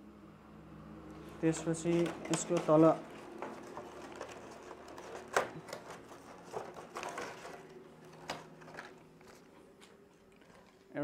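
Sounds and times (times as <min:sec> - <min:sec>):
packaging clicks and crinkles: 0:01.2 - 0:11.0.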